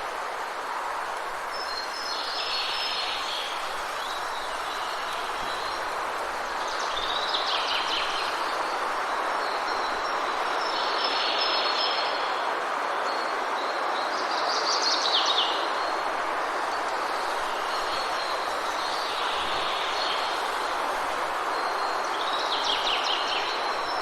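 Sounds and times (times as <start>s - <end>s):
rushing noise in trees: 0.0s - 24.0s.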